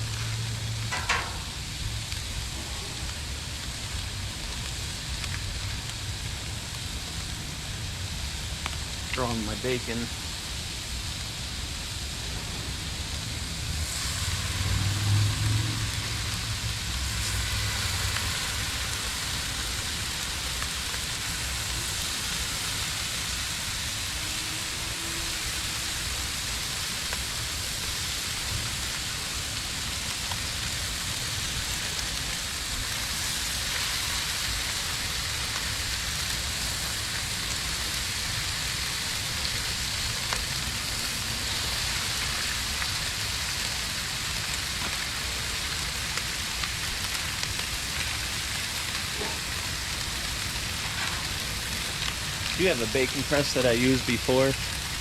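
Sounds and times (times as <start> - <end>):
bacon sizzling on a griddle: 0.0 - 55.0.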